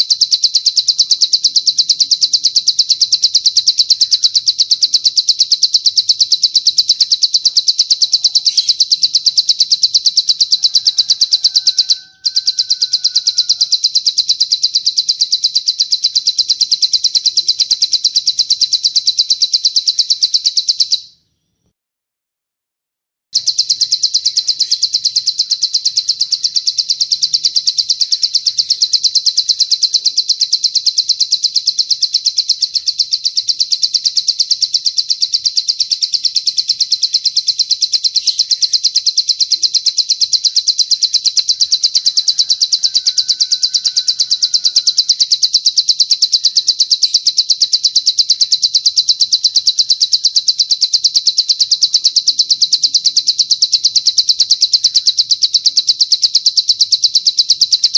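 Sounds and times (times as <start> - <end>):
bird's high-pitched trill: 0.0 - 21.7, 23.4 - 57.9.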